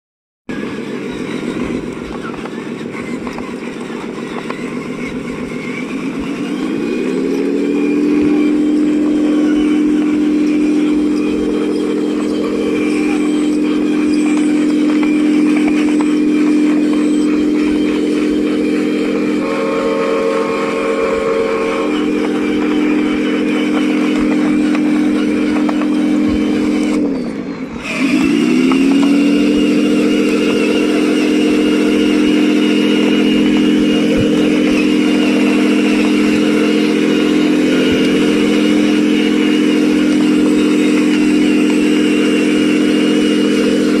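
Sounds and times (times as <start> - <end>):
toy electric motors whining: 0.5 - 44.0.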